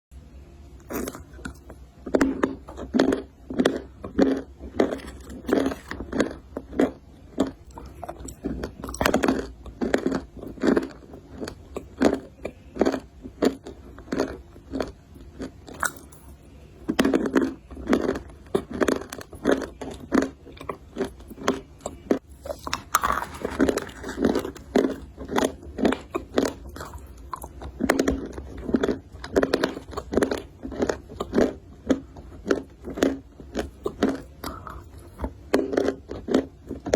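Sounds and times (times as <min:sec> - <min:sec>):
crunchy biting and chewing: 0:00.8 - 0:36.9.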